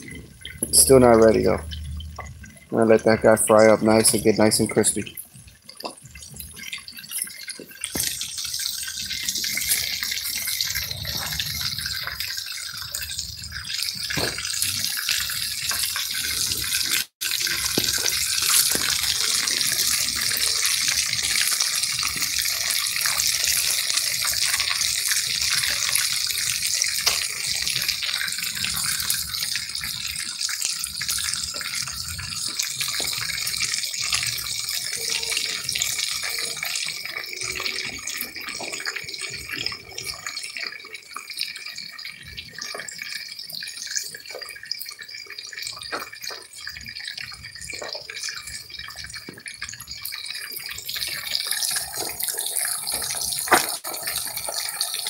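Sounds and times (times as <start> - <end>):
fish sizzling in hot oil: 3.8 - 55.0.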